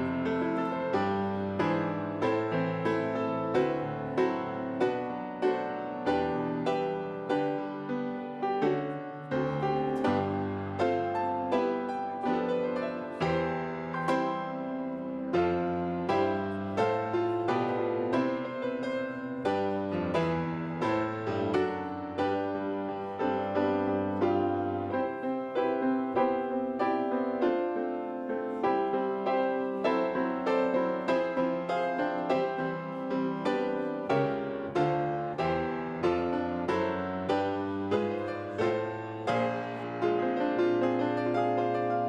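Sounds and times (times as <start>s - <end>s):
gentle solo piano chords: 0.0s - 42.0s.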